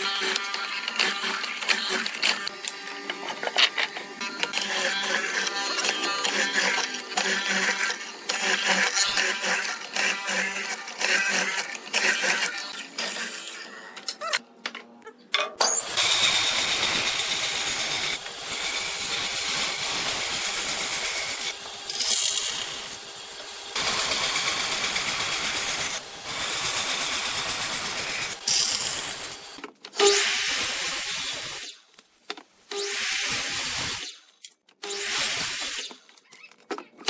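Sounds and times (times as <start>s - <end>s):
power tool cutting wood: 0.0s - 13.7s, 15.6s - 31.8s, 32.7s - 36.2s.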